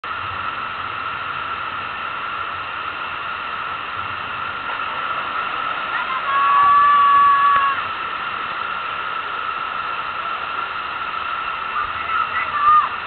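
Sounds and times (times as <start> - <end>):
pumped water rushing up ramp: 0.0 - 13.0.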